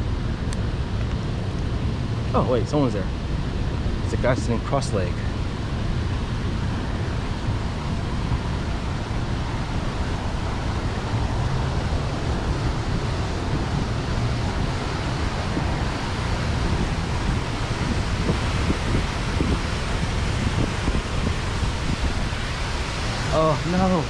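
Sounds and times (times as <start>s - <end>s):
fountain water splashing into pool: 0.8s - 24.0s.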